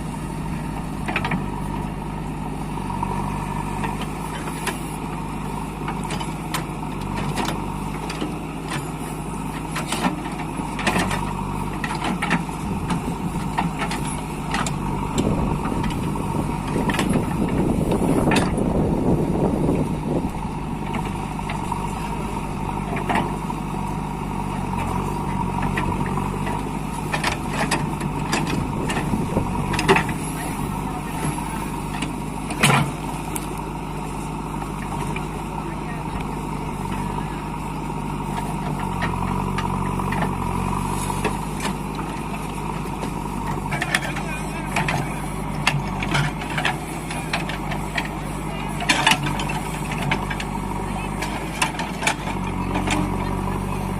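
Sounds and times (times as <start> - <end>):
backhoe engine running: 0.0 - 53.9.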